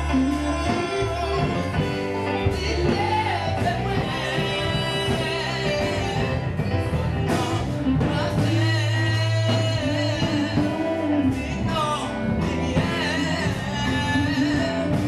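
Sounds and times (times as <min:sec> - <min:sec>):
man singing into microphone: 0:00.0 - 0:15.0
musical accompaniment with bass: 0:00.0 - 0:15.0.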